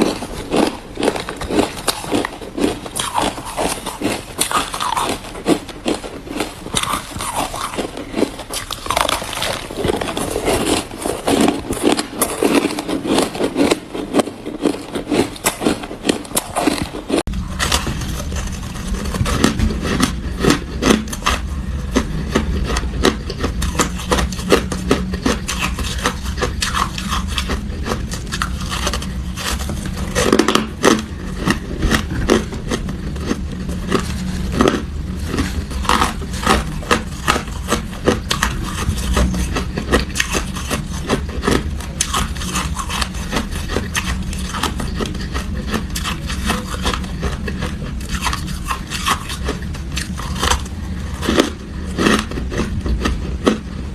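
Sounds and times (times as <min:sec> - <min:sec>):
ice crunching being chewed: 0:00.0 - 0:53.9
steady low hum: 0:00.0 - 0:53.9.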